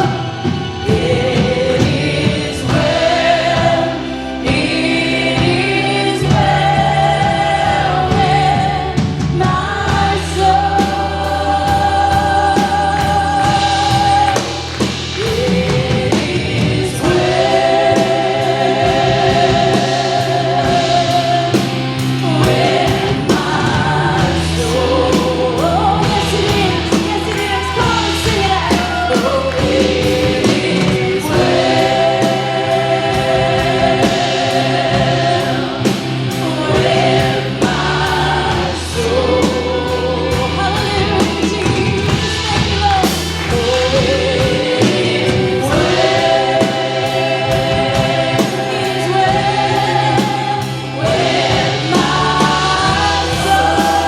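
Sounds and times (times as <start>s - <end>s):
regular drum beat: 0.0s - 54.0s
singers holding notes with vibrato: 0.0s - 54.0s
steady bass: 0.0s - 54.0s.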